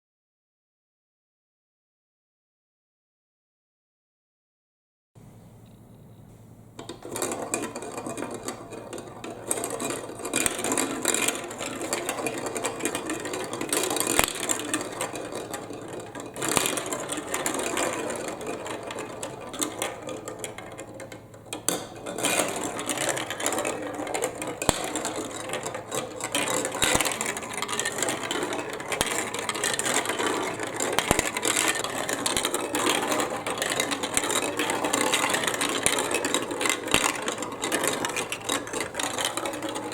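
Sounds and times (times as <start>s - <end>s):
marbles rattling through marble run: 6.9s - 39.9s.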